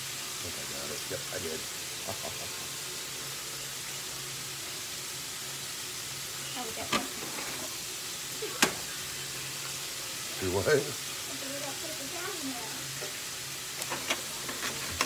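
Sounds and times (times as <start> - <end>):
meat and eggs sizzling in pan: 0.0 - 15.0.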